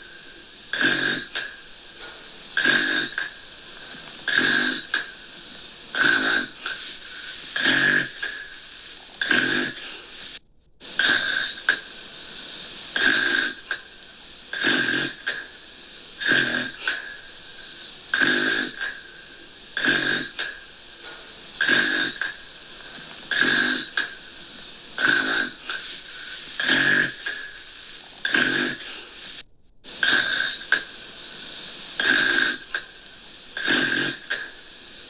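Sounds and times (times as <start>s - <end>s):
person snoring: 0.0s - 35.0s.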